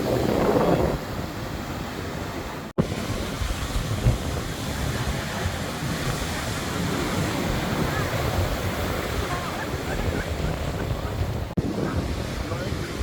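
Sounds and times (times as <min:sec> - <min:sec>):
heavy storm surf: 0:00.0 - 0:13.0
wind buffeting microphone: 0:00.0 - 0:13.0.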